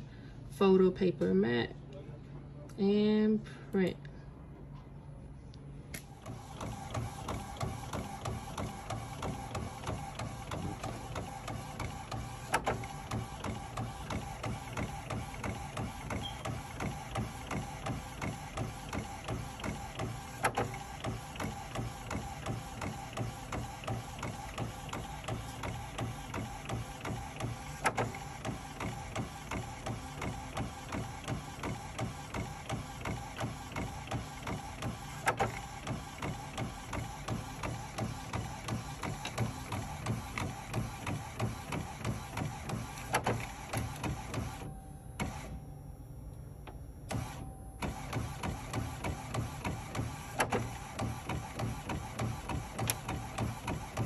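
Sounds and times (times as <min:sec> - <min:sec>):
printer sharp click: 0:06.0 - 0:45.6, 0:46.6 - 0:54.0.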